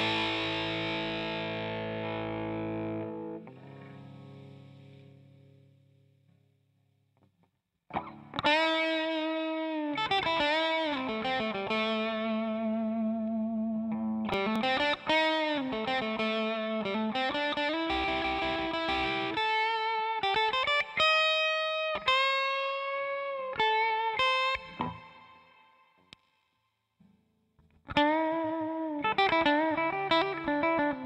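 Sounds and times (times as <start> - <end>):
overdriven electric guitar lead: 0.0 - 5.7, 7.9 - 25.7, 27.6 - 31.0.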